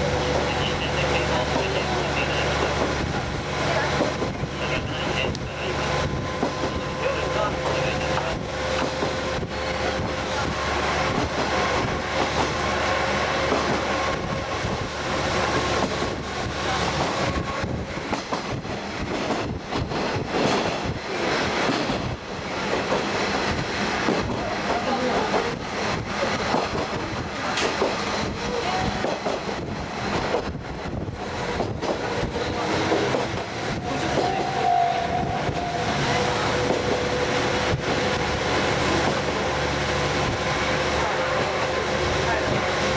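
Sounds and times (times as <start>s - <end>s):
train running noise: 0.0s - 42.9s.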